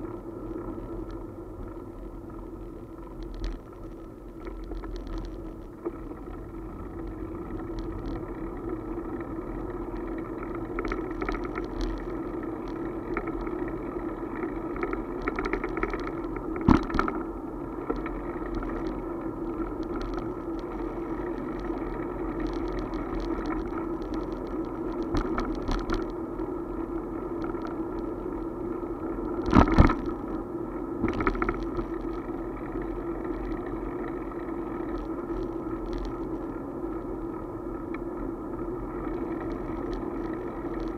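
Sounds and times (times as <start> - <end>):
bicycle rolling rattle: 0.0 - 40.9.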